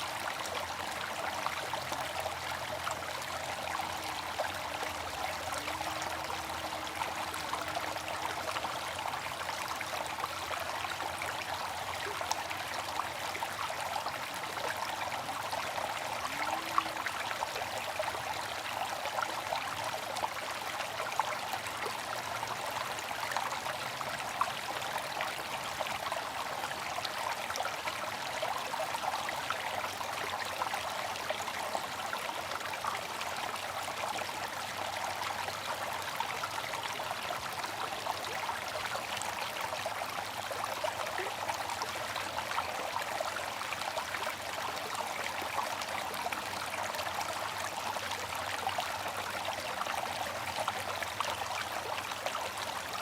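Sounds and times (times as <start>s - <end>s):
water trickling and splashing: 0.0s - 53.0s.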